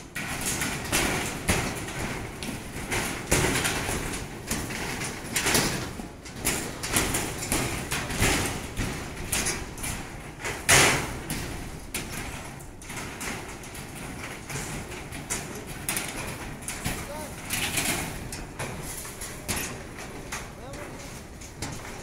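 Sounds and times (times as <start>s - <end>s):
footsteps on steel decking: 0.0s - 22.0s.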